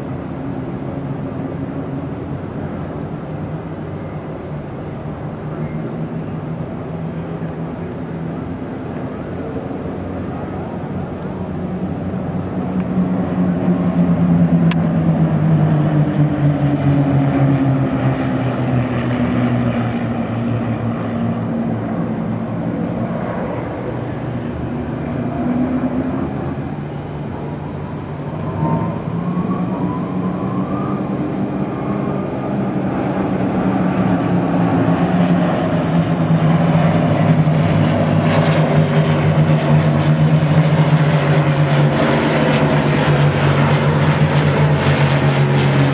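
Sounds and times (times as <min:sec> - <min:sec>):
propeller aircraft engine drone: 0:00.0 - 0:45.9.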